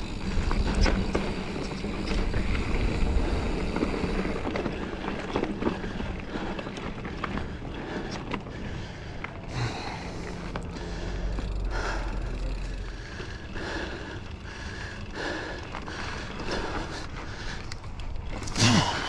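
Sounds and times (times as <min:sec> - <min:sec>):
bike clicks and rattles: 0:00.0 - 0:19.0
bike tyres rolling over rock: 0:00.0 - 0:19.0.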